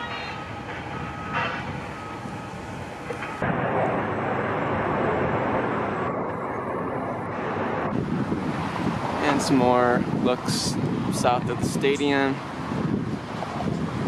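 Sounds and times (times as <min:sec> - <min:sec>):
distant traffic: 0:00.0 - 0:14.0
wind rushing on microphone: 0:00.0 - 0:14.0.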